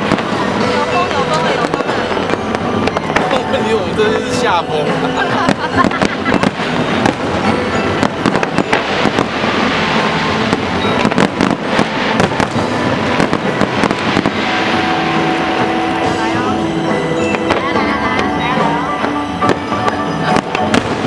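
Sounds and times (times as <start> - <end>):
firework shells bursting and crackling: 0.0 - 21.0.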